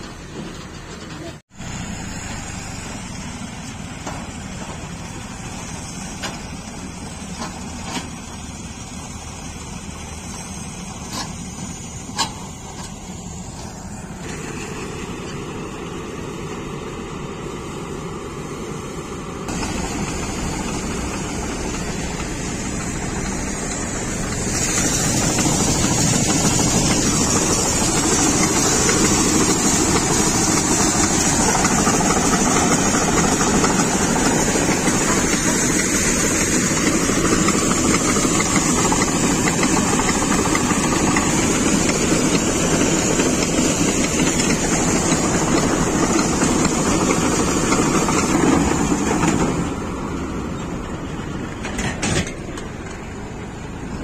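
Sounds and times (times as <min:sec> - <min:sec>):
grain unloading from auger: 0:00.0 - 0:17.6, 0:19.5 - 0:53.7
diesel engines running under load: 0:00.0 - 0:54.0.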